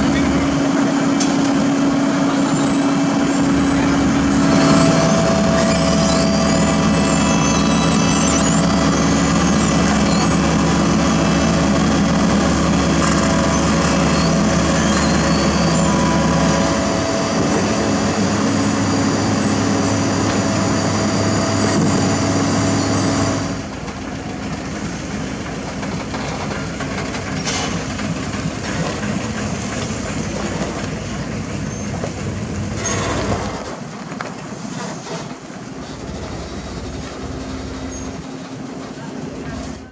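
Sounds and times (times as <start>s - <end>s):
crawler tracks rattling: 0.0s - 39.9s
heavy truck engine running: 0.0s - 39.9s
paver engine running: 0.0s - 39.9s.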